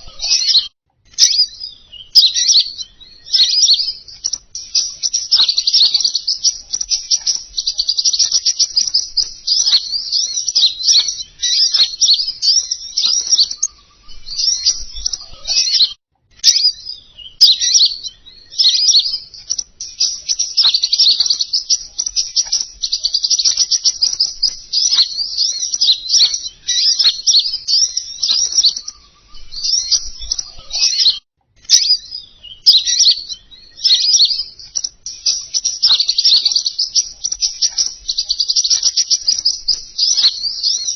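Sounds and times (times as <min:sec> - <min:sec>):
songbird twittering: 0:00.0 - 0:40.9.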